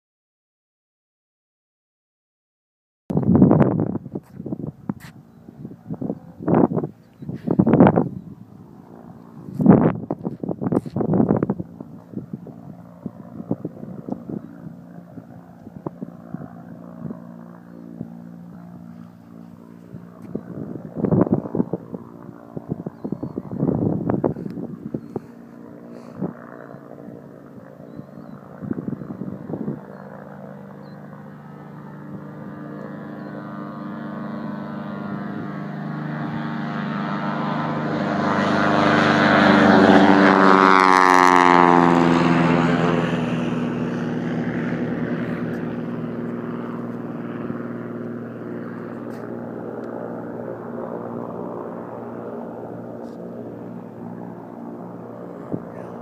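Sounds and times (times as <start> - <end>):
airship propeller engines droning: 3.9 - 56.0.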